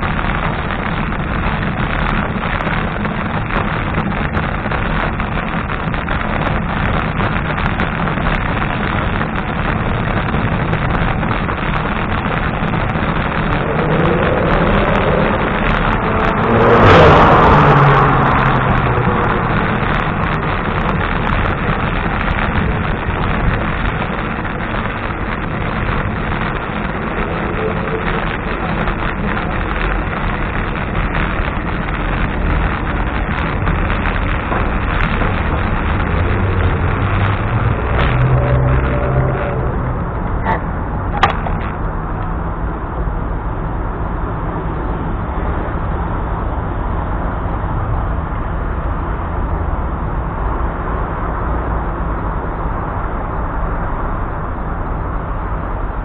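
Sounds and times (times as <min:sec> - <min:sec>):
road rumble: 0:00.0 - 0:56.0
wind on microphone: 0:00.0 - 0:56.0.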